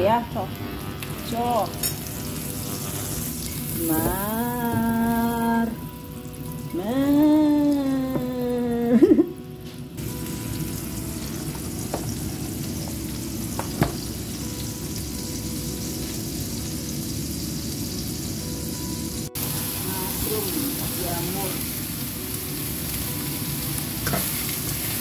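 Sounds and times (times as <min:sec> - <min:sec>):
butter and oil sizzling in a wok: 0:00.0 - 0:25.0.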